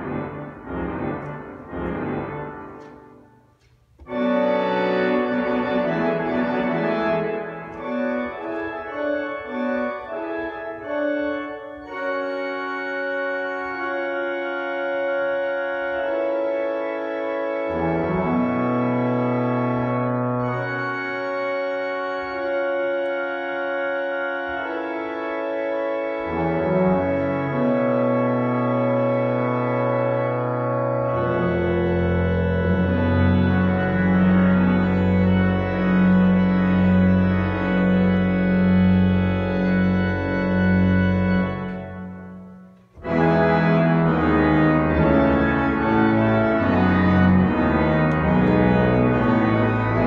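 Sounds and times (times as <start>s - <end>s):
pipe organ chords: 0.0s - 50.0s
deep organ pedal note: 4.0s - 50.0s.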